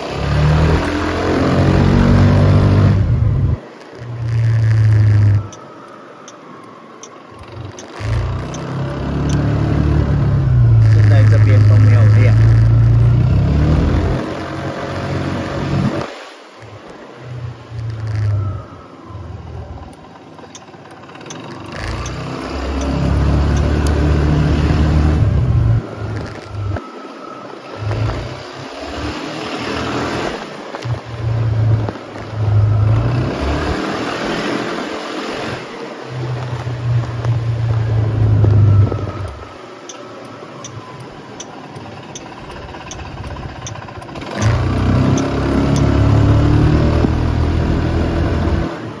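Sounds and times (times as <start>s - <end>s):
scooter engine revving: 0.0s - 5.7s, 7.0s - 19.1s, 19.8s - 26.8s, 27.7s - 49.0s.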